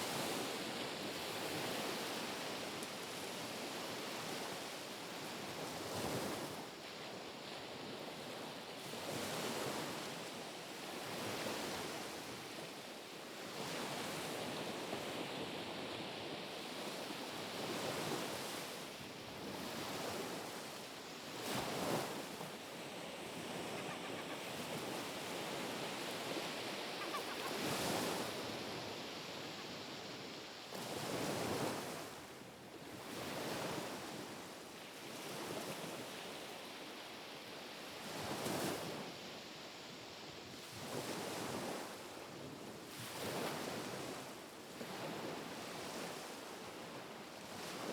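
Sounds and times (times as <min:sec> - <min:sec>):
gentle waves lapping on shore: 0:00.0 - 0:47.9.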